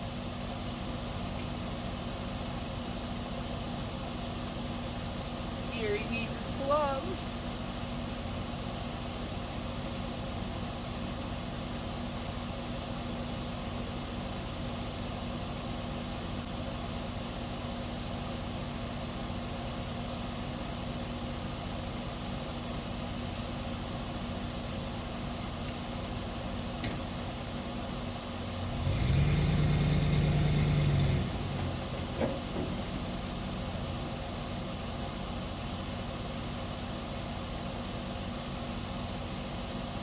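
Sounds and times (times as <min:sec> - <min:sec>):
tractor engine idling and revving: 0:00.0 - 0:40.0.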